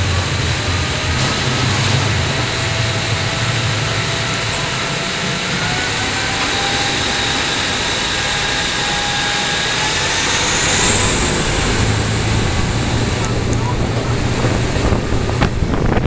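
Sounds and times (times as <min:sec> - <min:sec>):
churning propeller wash: 0:00.0 - 0:16.0
ferry engines rushing: 0:00.0 - 0:16.0.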